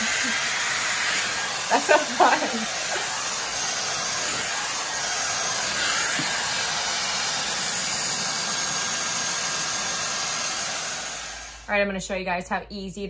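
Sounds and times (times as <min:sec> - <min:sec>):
hot-air brush blowing air: 0:00.0 - 0:11.8.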